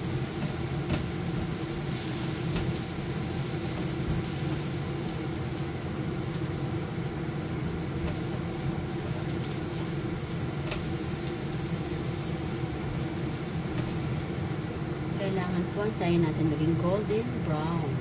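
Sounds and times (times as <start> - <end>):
garlic and onion frying in oil: 0.0 - 18.0
range hood fan humming: 0.0 - 18.0.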